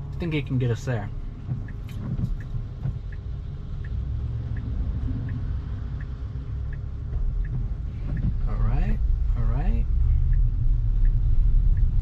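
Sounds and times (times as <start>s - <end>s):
road and tyre rumble: 0.0s - 12.0s
turn signal ticking: 0.0s - 12.0s.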